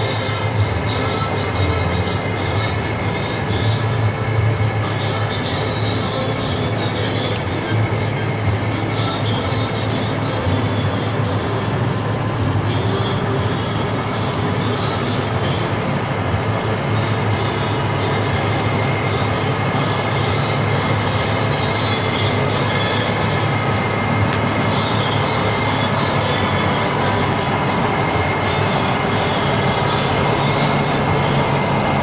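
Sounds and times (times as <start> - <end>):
thin high whine: 0.0 - 32.0
tow tractor engine droning: 0.0 - 32.0.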